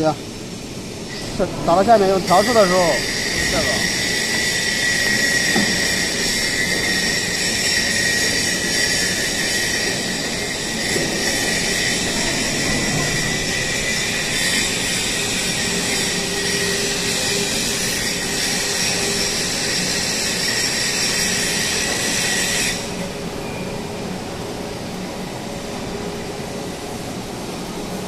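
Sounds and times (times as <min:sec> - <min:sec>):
machinery hiss and high whine: 0:00.0 - 0:28.0
steady machine hum: 0:00.0 - 0:28.0.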